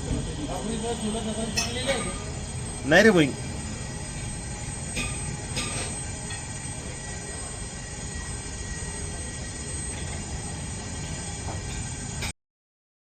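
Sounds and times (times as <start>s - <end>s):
crackling hiss of welding arc: 0.0s - 12.3s.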